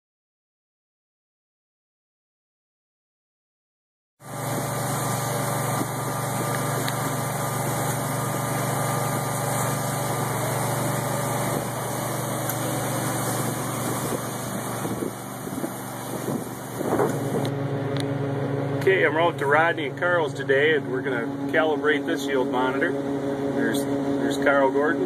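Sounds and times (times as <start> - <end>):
combine engine droning: 4.2 - 25.0.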